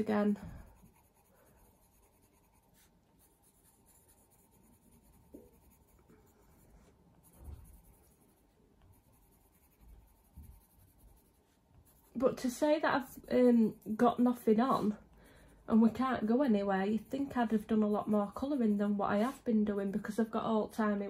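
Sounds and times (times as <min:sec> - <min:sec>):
pencil scratching on paper: 0:00.0 - 0:21.0.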